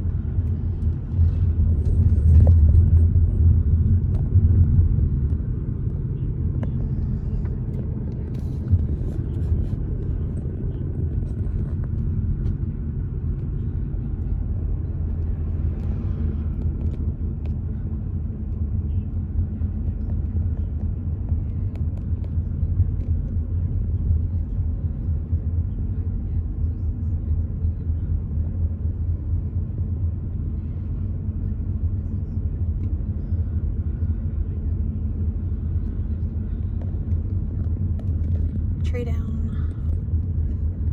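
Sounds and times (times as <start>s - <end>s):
car driving at low speed: 0.0s - 40.9s.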